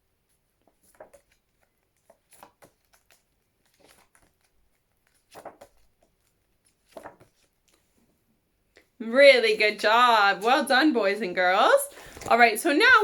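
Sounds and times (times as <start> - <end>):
paper flashcards rustling: 0.2 - 8.2, 9.6 - 13.0.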